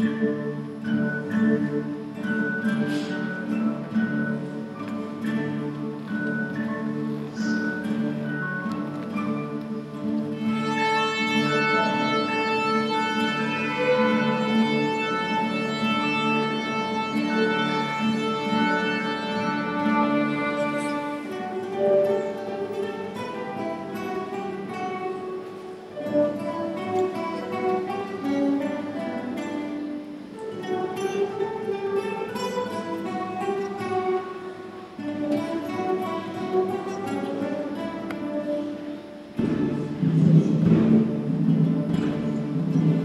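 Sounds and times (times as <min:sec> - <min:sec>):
violins and classical guitars playing: 0:00.0 - 0:43.0.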